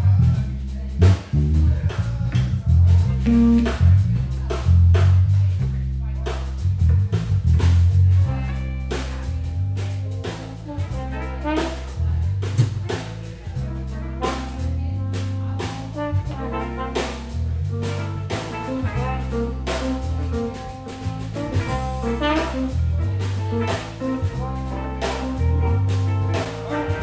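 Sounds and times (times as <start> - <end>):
drum kit beat with cymbals: 0.0 - 27.0
live blues band playing: 0.0 - 27.0
walking bass line: 0.0 - 27.0.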